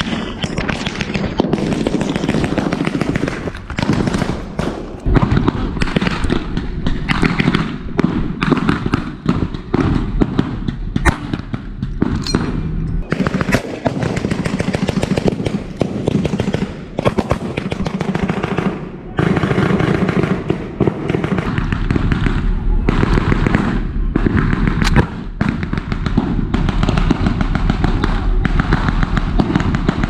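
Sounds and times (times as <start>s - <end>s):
blank gunshots: 0.0s - 30.0s
steady low rumble: 0.0s - 30.0s.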